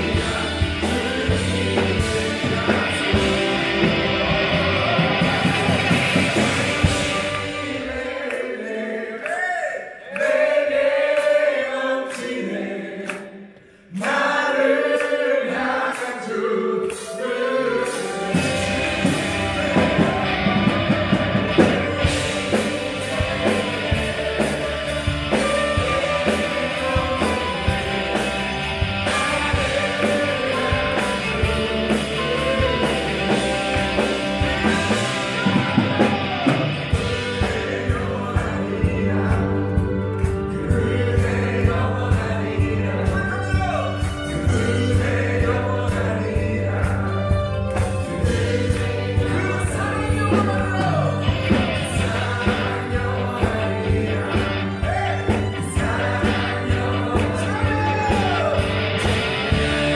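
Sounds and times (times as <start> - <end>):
bass and drums: 0.0 - 7.8, 17.9 - 59.9
electric guitar: 0.0 - 8.3, 17.0 - 59.9
voices singing: 0.0 - 59.9.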